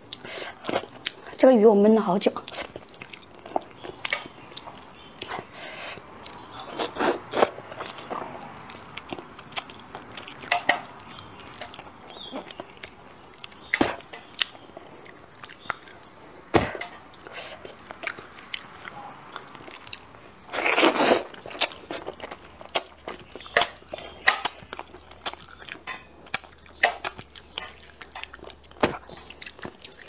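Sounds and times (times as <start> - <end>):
chewing: 0.0 - 1.4, 2.3 - 30.0.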